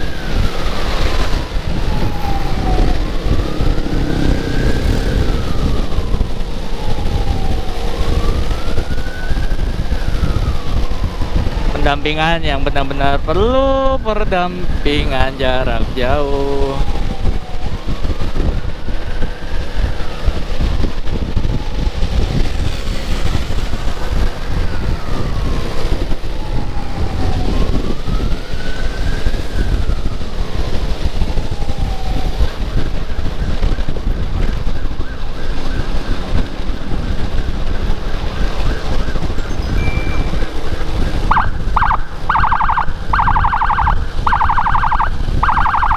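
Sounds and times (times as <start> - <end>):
electronic siren wailing and yelping: 0.0 - 22.7, 23.6 - 45.9
motorcycle wind and road rumble: 0.0 - 45.9.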